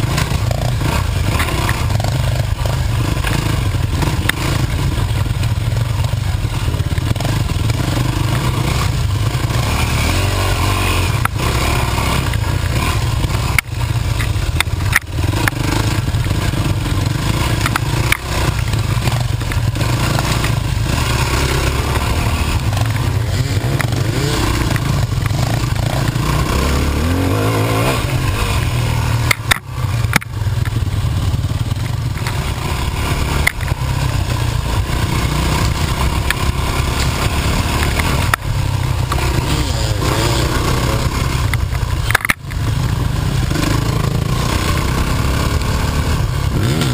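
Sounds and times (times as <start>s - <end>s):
bike rattling and knocking: 0.0s - 9.8s, 11.1s - 27.2s, 28.6s - 45.5s
dirt bike engine revving: 0.0s - 46.9s.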